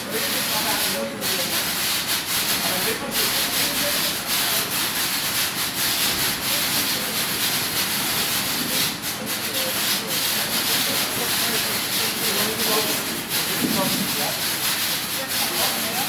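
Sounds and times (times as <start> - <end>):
packing line machinery hiss: 0.0 - 16.0.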